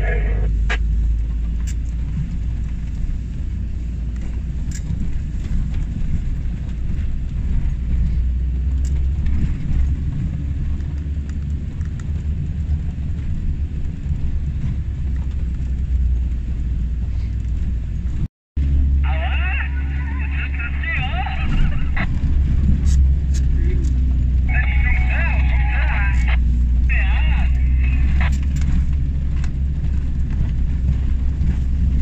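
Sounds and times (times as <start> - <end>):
car driving on road: 0.0 - 32.0.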